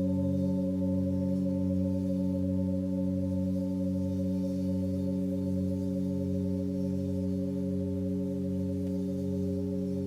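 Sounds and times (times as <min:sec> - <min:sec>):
singing bowls ringing: 0:00.0 - 0:10.0.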